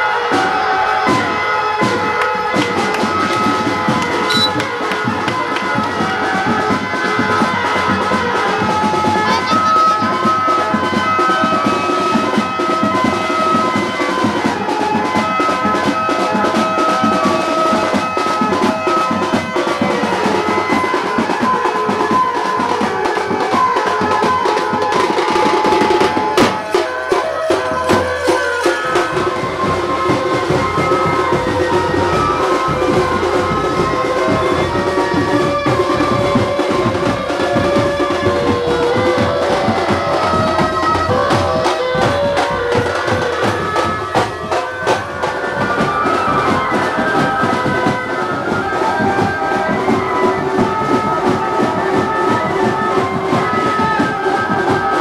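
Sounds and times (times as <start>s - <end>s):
music with drumming and melody: 0.0s - 55.0s.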